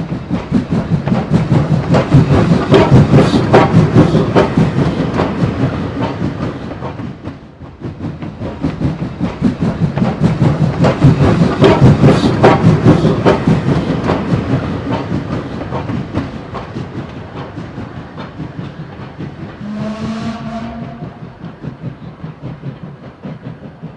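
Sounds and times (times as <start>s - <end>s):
model train wheels clicking: 0.0s - 19.8s
model train rumble: 0.0s - 23.9s.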